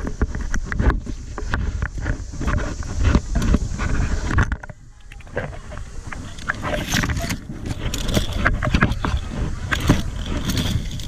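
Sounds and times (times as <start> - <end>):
wind and handling noise: 0.0 - 11.0.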